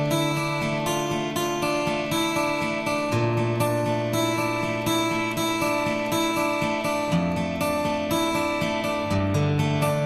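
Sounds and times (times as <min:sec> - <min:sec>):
plucked chords music: 0:00.0 - 0:10.0.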